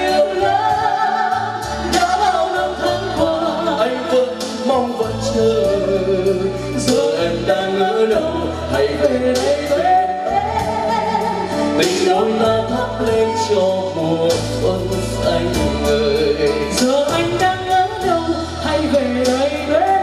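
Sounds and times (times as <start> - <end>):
band accompaniment: 0.0 - 20.0
man and woman singing duet: 0.0 - 20.0.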